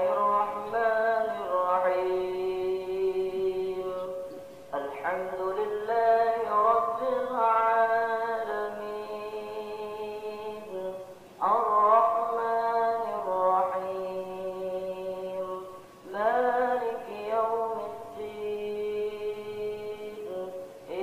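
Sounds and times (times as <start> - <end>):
man chanting prayer: 0.0 - 21.0.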